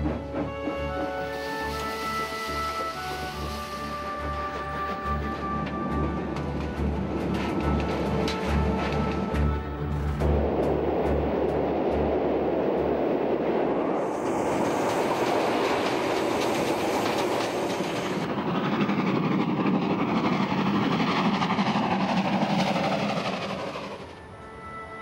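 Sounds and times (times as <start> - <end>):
steam train running on track: 0.0 - 25.0.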